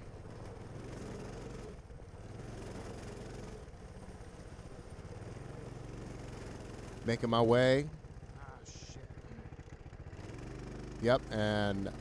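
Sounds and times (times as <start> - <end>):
mini bike engine running: 0.0 - 12.0.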